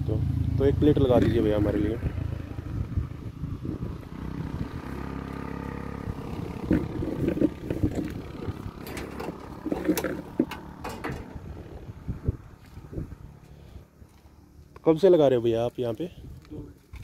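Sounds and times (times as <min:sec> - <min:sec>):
low engine hum: 0:00.0 - 0:14.8.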